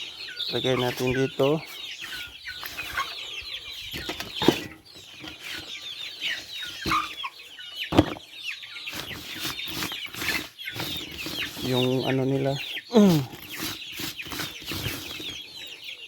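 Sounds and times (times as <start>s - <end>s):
chickens peeping and clucking: 0.0s - 16.0s.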